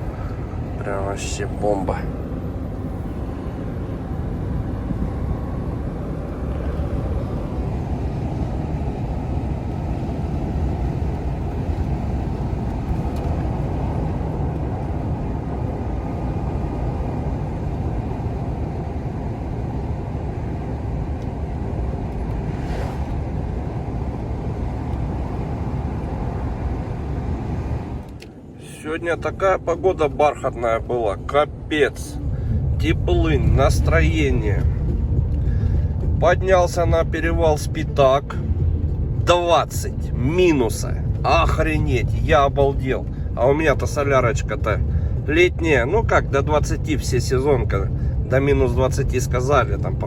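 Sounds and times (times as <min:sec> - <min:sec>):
air through open window: 0:00.0 - 0:50.0
lorry engine and road noise: 0:00.0 - 0:50.0.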